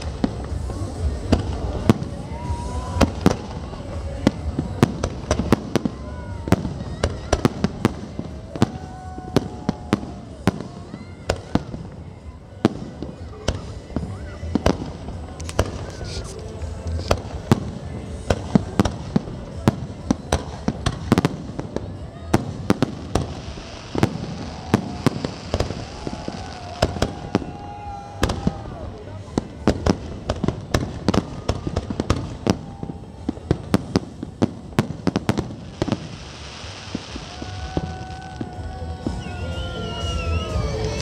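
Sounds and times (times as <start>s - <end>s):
fireworks bursting with sharp bangs: 0.0s - 41.0s.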